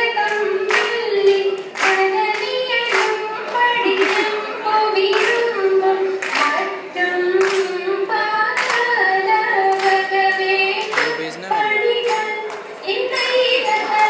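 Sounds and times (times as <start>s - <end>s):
sharp hand claps: 0.0s - 14.0s
women singing in unison: 0.0s - 14.0s.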